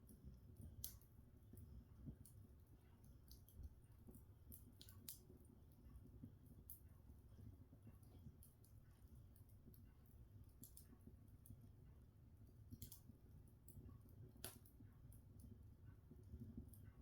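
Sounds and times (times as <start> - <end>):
log fire crackling: 0.0 - 17.0.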